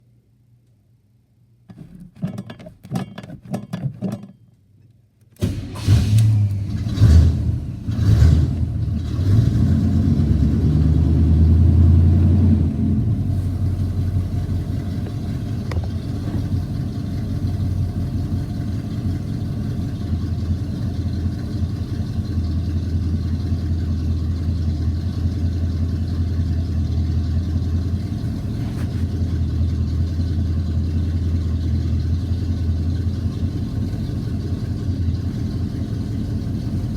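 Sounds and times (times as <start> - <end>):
car engine idling: 5.4 - 36.9
car engine starting and revving: 5.4 - 36.9.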